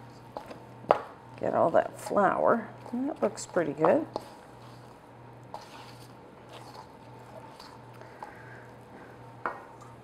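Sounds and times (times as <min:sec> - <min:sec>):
spatula stirring batter: 0:00.0 - 0:10.0.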